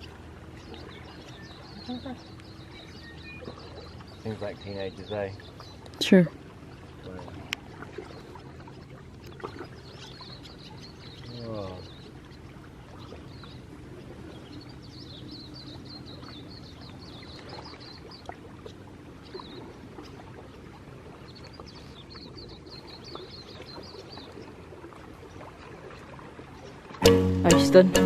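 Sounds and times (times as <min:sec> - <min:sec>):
water noise: 0:00.0 - 0:28.0.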